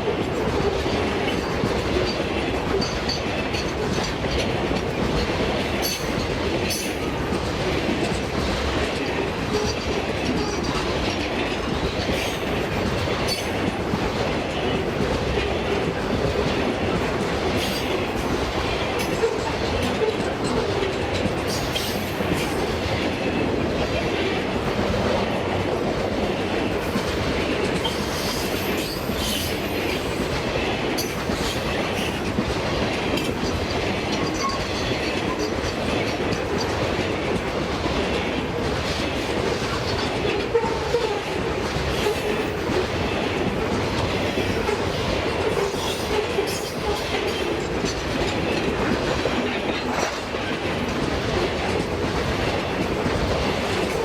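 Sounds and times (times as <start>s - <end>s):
freight train wheels rumbling: 0.0s - 54.0s
wheels clicking over rail joints: 0.1s - 54.0s.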